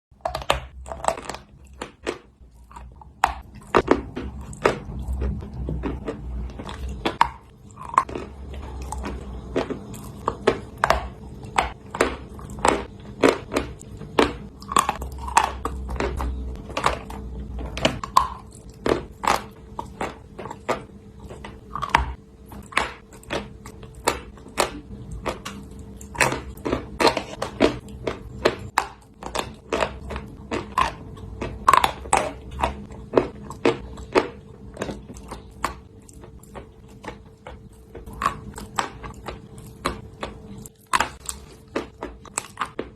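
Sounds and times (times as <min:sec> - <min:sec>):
chalk crunching while chewed: 0:00.2 - 0:42.9.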